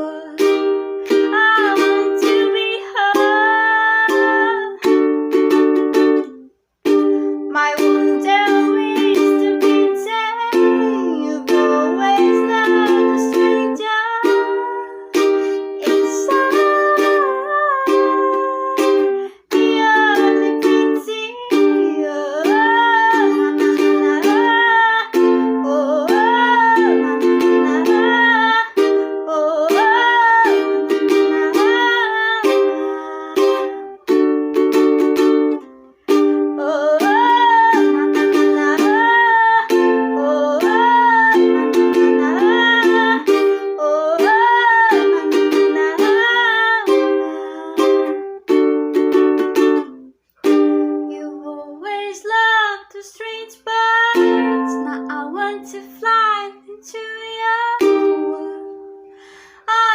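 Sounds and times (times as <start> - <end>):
ukulele strumming chords: 0.0 - 59.9.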